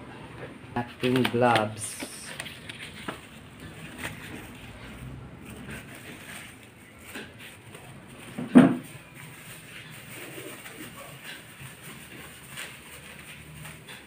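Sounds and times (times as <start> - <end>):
plastic bags rustling: 0.4 - 14.0.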